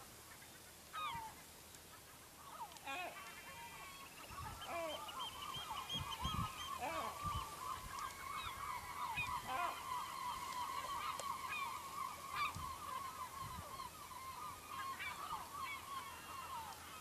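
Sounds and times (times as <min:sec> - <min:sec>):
seagulls calling: 0:00.3 - 0:17.0
sharp seagull cries: 0:02.6 - 0:17.0.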